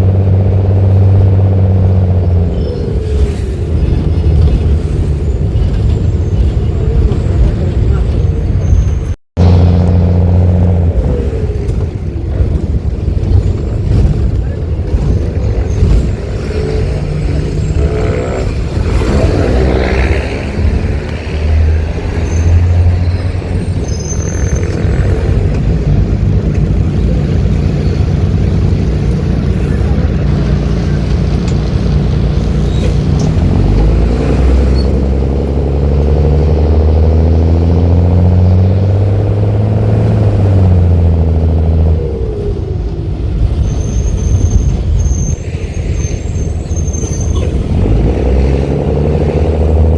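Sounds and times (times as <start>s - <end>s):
bus diesel engine accelerating: 0.0s - 49.9s.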